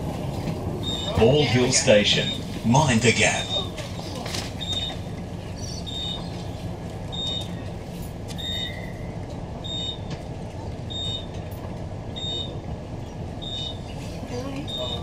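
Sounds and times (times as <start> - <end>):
low train hum: 0.0 - 15.0.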